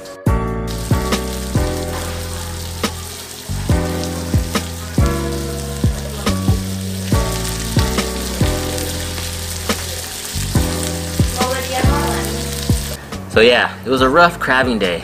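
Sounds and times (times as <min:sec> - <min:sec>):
background music with chords: 0:00.0 - 0:15.0
fish sizzling in frying pan: 0:00.7 - 0:13.2.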